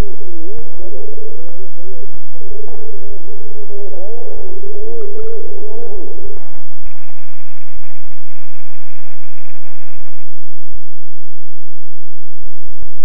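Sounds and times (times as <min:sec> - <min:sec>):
electrical hum: 0:00.0 - 0:11.8
distorted radio static: 0:00.0 - 0:13.0.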